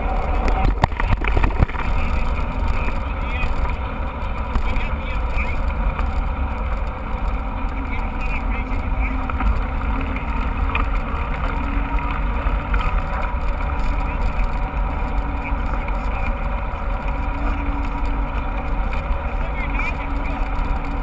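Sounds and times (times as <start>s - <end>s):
bike tyre and trail noise: 0.0s - 21.0s
wind rumble on microphone: 0.0s - 21.0s.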